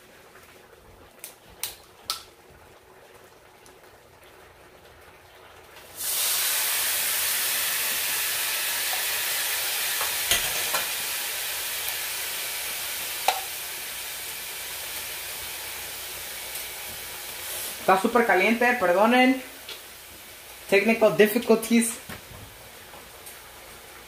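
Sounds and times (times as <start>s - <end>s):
water sizzling in hot pan: 1.2s - 24.0s.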